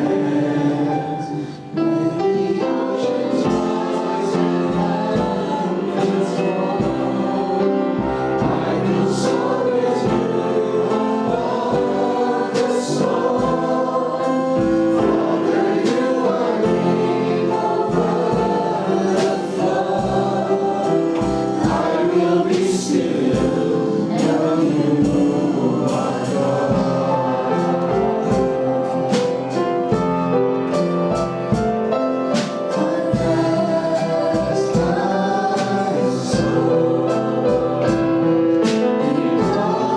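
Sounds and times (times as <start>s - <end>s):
choir singing with a band: 0.0s - 39.9s.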